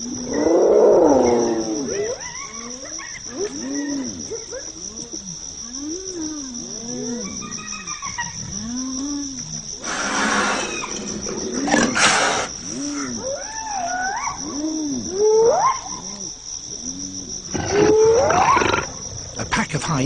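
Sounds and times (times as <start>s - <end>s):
hyenas moaning and whooping: 0.0s - 19.0s
crickets chirring: 0.0s - 20.0s.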